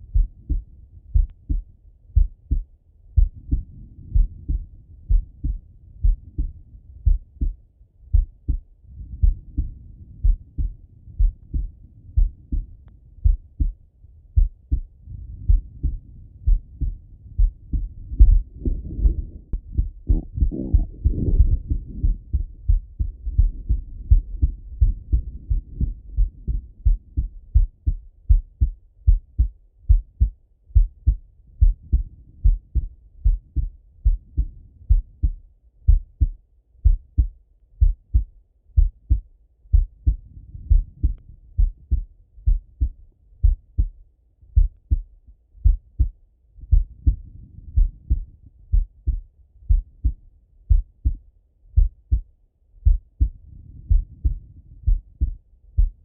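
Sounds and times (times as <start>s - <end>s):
muffled heartbeat: 0.0s - 56.0s.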